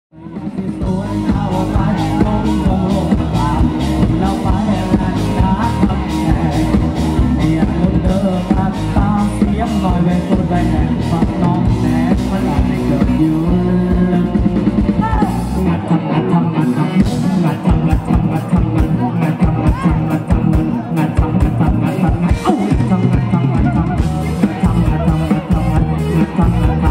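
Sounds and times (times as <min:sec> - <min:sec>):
live rock band: 0:00.1 - 0:26.9
man singing: 0:00.1 - 0:26.9.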